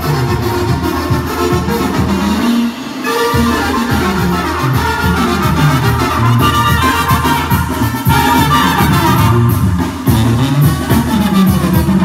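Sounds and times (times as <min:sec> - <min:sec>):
brass band music: 0:00.0 - 0:12.0.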